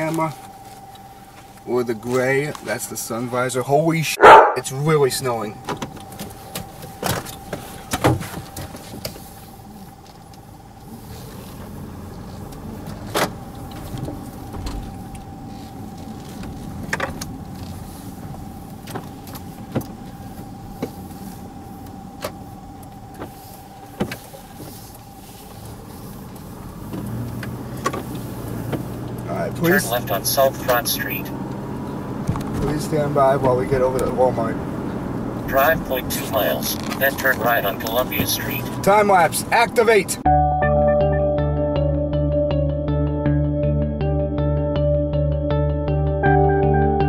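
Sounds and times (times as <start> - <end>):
faint whine: 0.0 - 40.3
engine and road rumble: 0.0 - 47.0.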